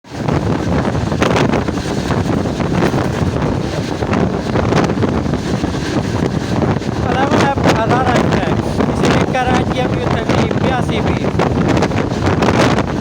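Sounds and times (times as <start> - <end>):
wind buffeting microphone: 0.0 - 13.0
steady low rumble: 0.2 - 13.0.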